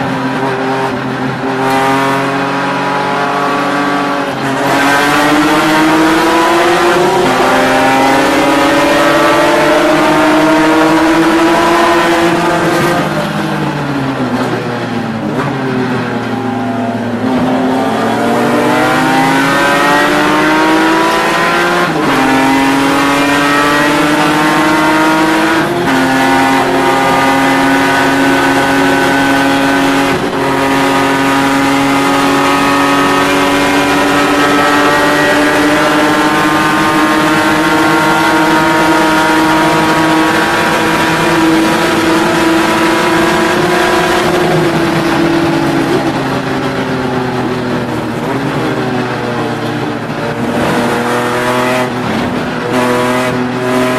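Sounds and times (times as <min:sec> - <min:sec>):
race car engine at full throttle: 0:00.0 - 0:53.9.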